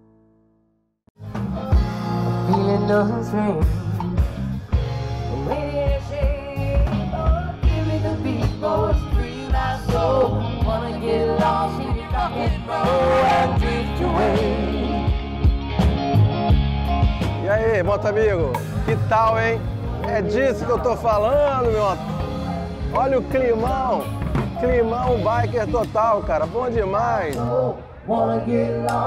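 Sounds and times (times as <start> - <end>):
live rock band with singer: 1.3 - 28.0.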